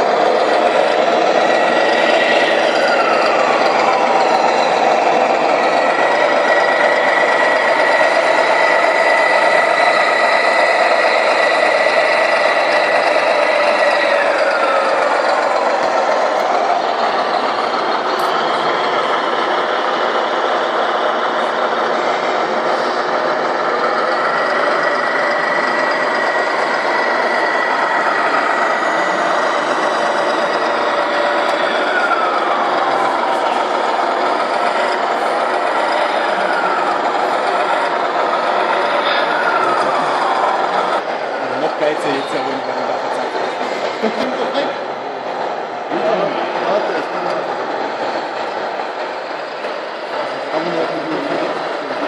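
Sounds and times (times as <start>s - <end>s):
falling engine whine: 0.0s - 52.0s
simulated truck engine noise: 0.0s - 52.0s.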